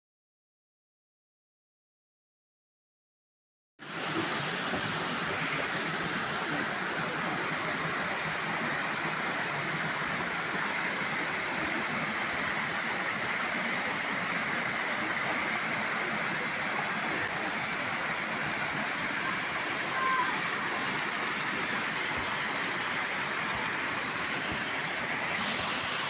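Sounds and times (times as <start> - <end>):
waterfall rushing: 3.9 - 26.0.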